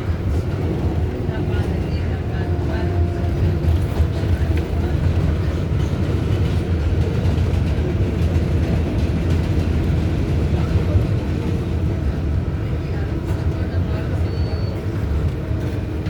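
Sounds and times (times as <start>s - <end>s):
subway wheels rumbling on rail: 0.0s - 16.0s.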